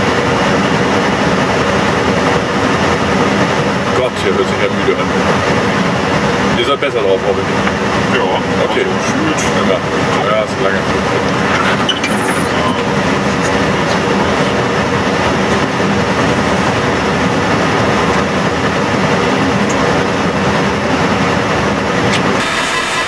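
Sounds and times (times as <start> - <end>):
airliner cockpit noise: 0.0 - 23.0.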